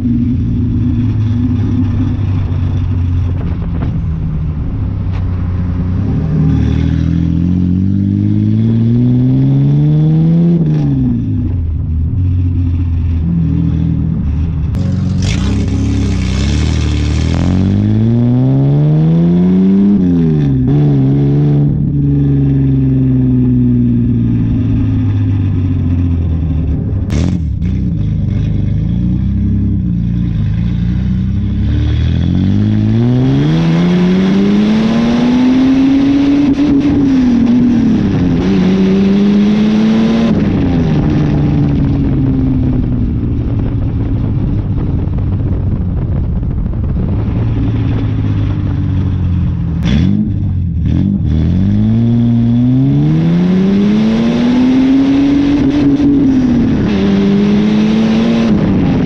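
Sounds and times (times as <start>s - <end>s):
car engine revving: 0.0s - 59.0s
wind noise on microphone: 0.0s - 59.0s.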